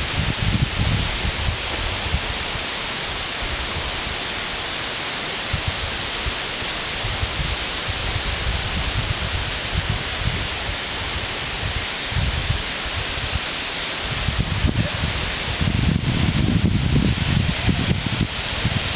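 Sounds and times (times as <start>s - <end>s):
wind buffeting microphone: 0.0s - 4.2s, 7.0s - 13.4s, 14.0s - 18.9s
waterfall rushing onto rocks: 0.0s - 18.9s.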